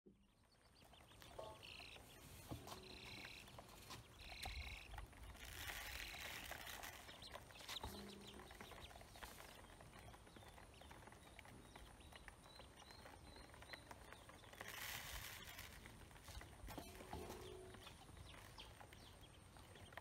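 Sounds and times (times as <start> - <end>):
ducklings peeping: 0.1 - 20.0.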